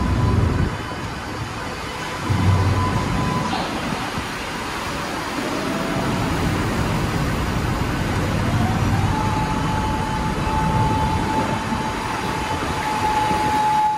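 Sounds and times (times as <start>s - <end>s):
machinery low rumble: 0.0s - 13.9s.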